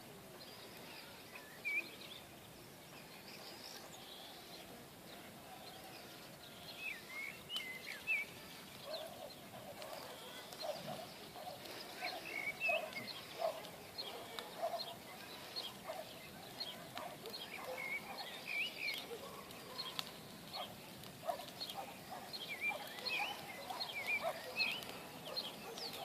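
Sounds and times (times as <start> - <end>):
birds chirping and trilling: 0.4 - 26.0.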